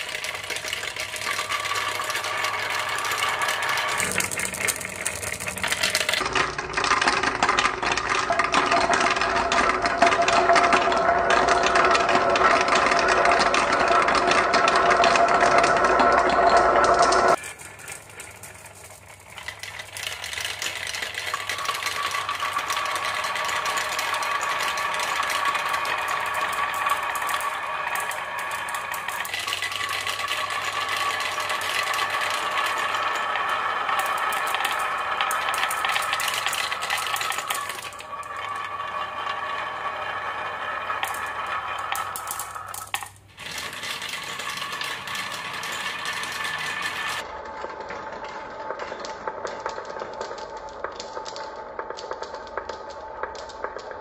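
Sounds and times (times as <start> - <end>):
marbles rattling down a track: 0.0 - 54.0.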